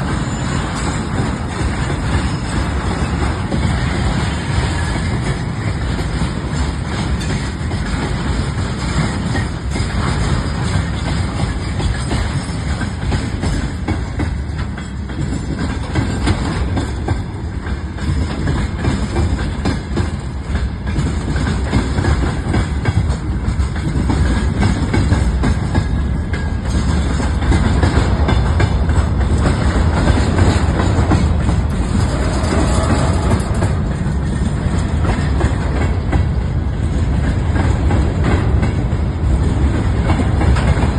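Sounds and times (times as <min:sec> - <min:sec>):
train rumbling and clattering: 0:00.0 - 0:40.9.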